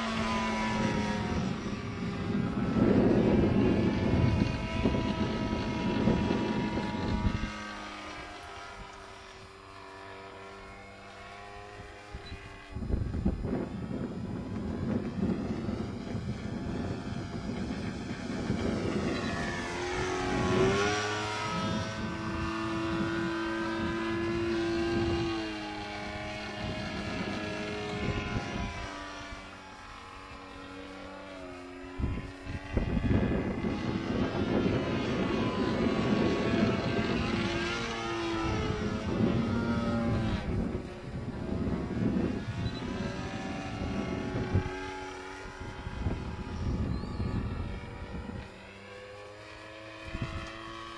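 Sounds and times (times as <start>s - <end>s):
propeller plane engine passing: 0.0s - 50.9s.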